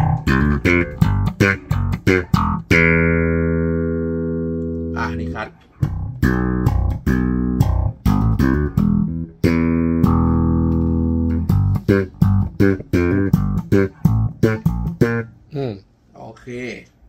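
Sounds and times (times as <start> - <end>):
electric bass plucked notes: 0.0 - 15.7.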